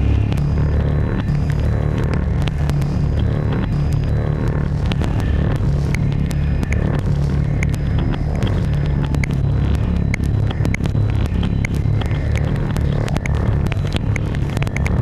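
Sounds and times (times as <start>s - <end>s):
rumbling synthesizer drone: 0.0s - 15.0s
sharp clicks: 0.0s - 15.0s.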